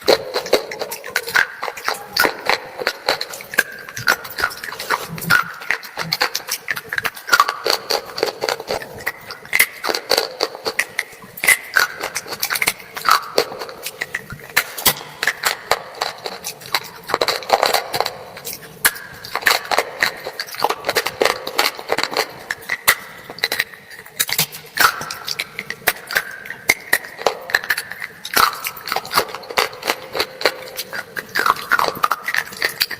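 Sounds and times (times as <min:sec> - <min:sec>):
chewing crisp crunches: 0:00.0 - 0:32.9.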